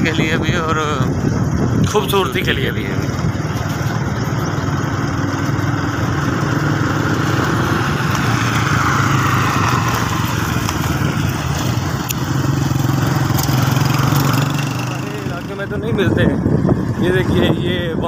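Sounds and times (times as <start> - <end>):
road noise: 0.0 - 18.0
vehicle engine humming: 0.0 - 18.0
wind noise: 0.0 - 18.0.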